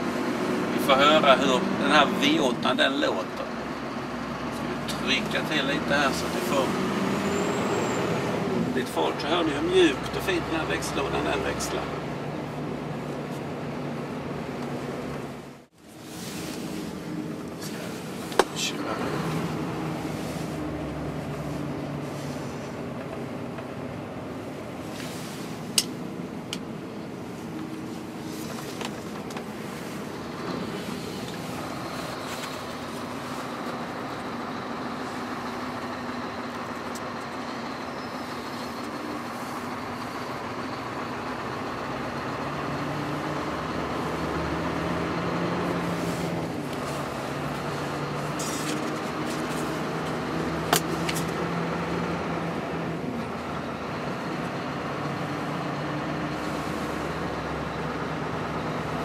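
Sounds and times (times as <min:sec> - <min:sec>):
truck engine pulling under load: 0:00.0 - 0:59.0.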